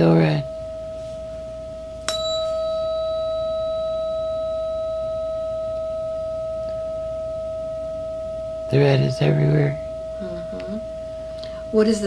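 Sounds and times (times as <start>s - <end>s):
tuning fork ringing: 0.0s - 12.0s.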